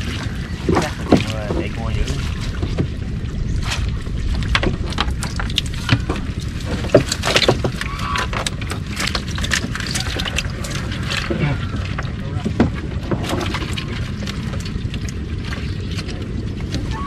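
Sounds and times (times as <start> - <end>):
steady low rumble: 0.0 - 17.0
water splashing and sloshing: 0.0 - 17.0.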